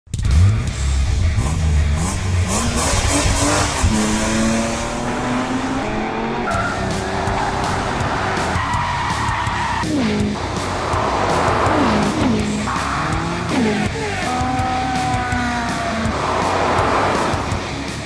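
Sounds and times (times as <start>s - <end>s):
race car engine revving: 0.2s - 18.0s.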